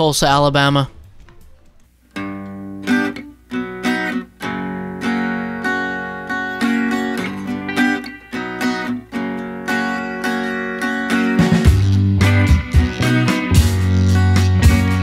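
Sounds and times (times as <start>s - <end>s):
strummed acoustic guitar chords: 0.9s - 15.0s.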